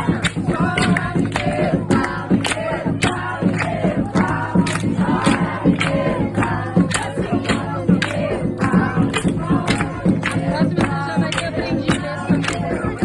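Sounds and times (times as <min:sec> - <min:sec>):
group of voices singing: 0:00.0 - 0:13.0
steady percussive beat: 0:00.0 - 0:13.0.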